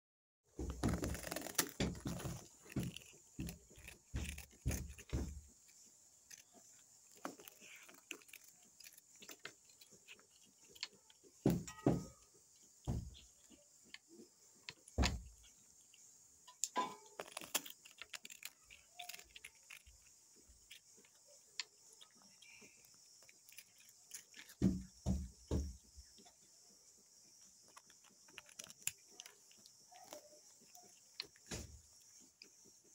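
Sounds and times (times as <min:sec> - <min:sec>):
kitten crunching biscuit: 0:00.7 - 0:11.4, 0:12.6 - 0:26.3, 0:27.4 - 0:32.9.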